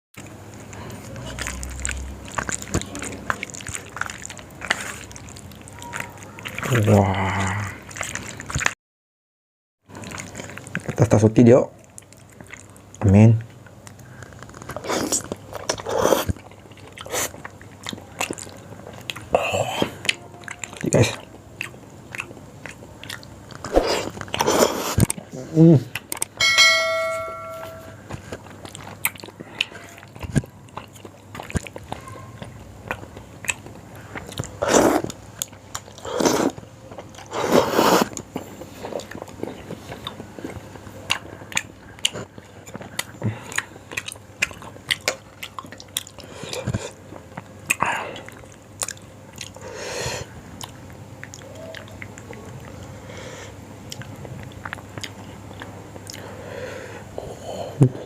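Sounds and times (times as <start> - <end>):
chewing and biting food: 0.2 - 8.7, 9.9 - 11.1, 11.8 - 25.3, 28.1 - 53.1, 53.8 - 56.4.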